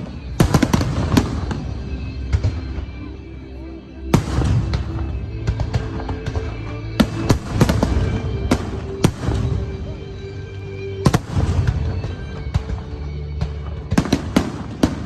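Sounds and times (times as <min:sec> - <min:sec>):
fireworks bangs: 0:00.0 - 0:03.2, 0:04.1 - 0:15.0
fireworks crackling: 0:00.0 - 0:15.0
music: 0:00.0 - 0:15.0.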